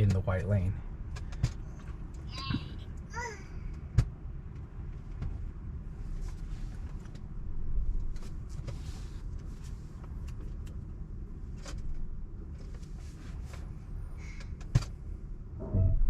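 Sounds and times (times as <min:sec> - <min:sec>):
road noise inside car cabin: 0:00.0 - 0:16.0.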